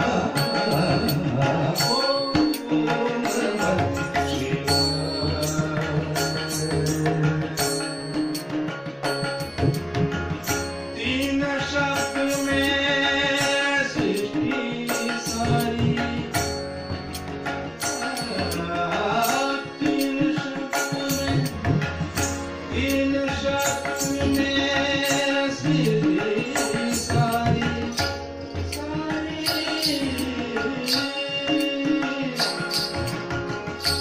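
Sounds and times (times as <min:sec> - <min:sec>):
harmonium playing held chords: 0:00.0 - 0:34.0
man singing devotional song: 0:00.0 - 0:34.0
tabla drumming: 0:00.0 - 0:34.0.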